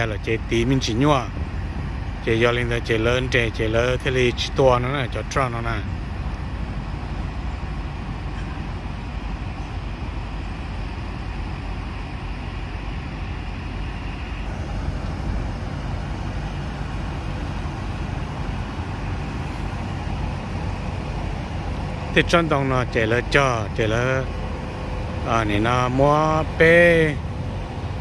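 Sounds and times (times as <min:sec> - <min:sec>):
idling truck diesel engines: 0:00.0 - 0:28.0
passing traffic: 0:00.0 - 0:28.0.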